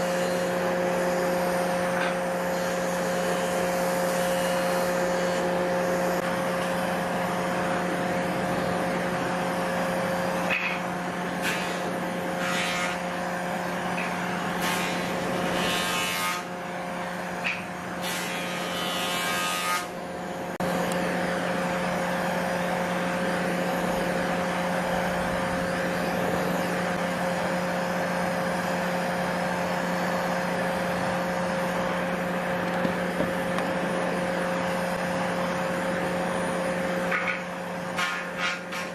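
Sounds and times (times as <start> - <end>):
steady hum: 0.0 - 38.9.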